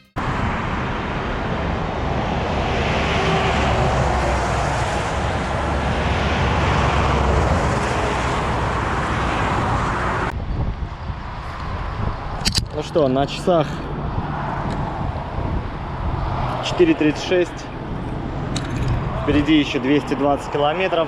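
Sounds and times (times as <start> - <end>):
motorcycle engine and road rumble: 0.0 - 21.0
wind roaring over microphone: 0.2 - 21.0.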